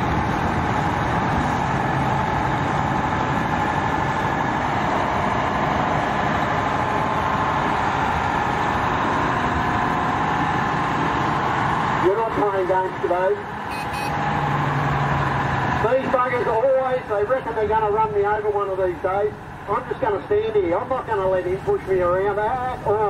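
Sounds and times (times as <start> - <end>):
diesel truck engines running: 0.0 - 23.0.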